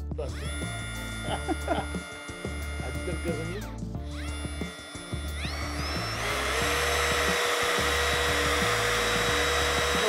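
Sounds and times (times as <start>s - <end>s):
background music: 0.0s - 10.0s
trim router high-speed whine: 0.3s - 10.0s.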